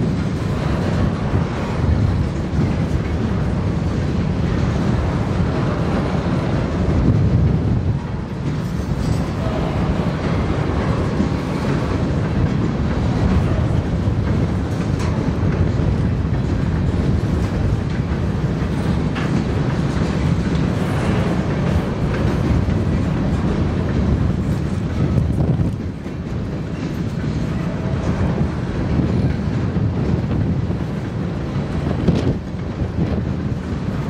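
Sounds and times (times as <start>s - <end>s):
steel wheels rumbling on rail: 0.0s - 34.0s
wheels clicking over rail joints: 0.0s - 34.0s.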